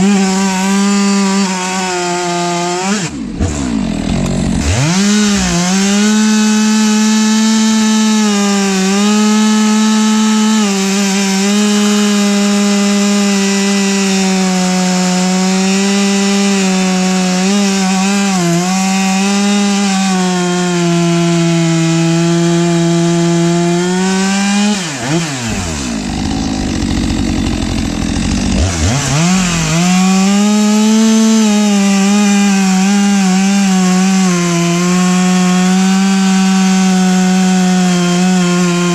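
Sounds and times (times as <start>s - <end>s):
chainsaw running at full throttle: 0.0s - 38.9s.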